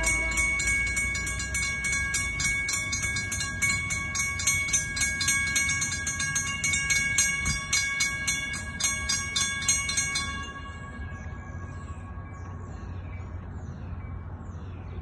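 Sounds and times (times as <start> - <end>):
crossing warning bell ringing: 0.0 - 14.4.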